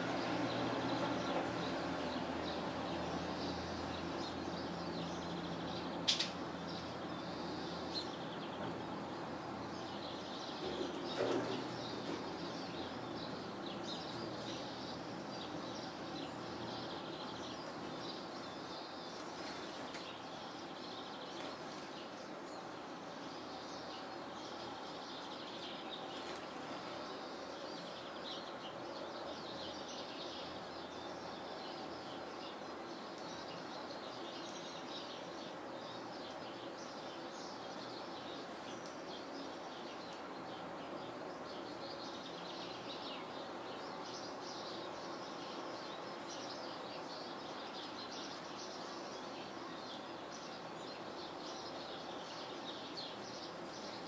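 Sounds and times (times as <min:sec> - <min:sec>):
background hiss: 0:00.0 - 0:54.0
songbirds chirping: 0:00.0 - 0:54.0.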